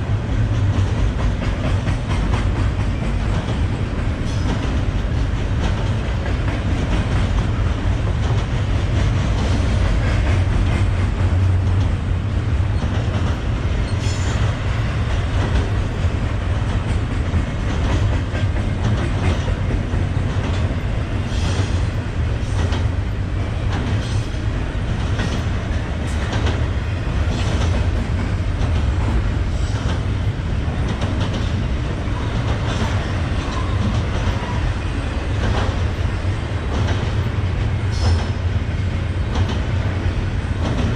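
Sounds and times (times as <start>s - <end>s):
freight train rumbling: 0.0s - 40.9s.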